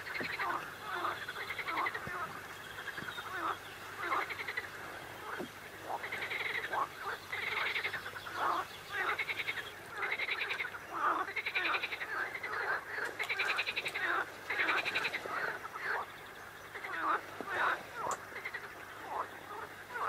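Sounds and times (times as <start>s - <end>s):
frogs croaking: 0.0s - 20.0s.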